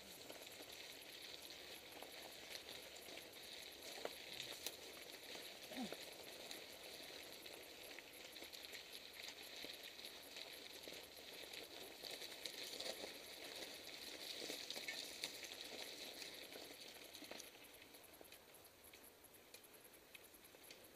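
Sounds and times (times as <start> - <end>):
bike tyres crunching on gravel: 0.0 - 19.0.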